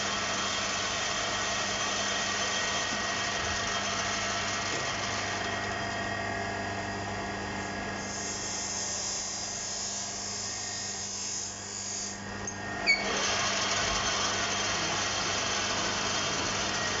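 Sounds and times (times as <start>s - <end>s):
lathe chuck whirring: 0.0s - 7.2s, 8.0s - 17.0s
lathe motor hum: 0.0s - 11.6s, 12.2s - 17.0s.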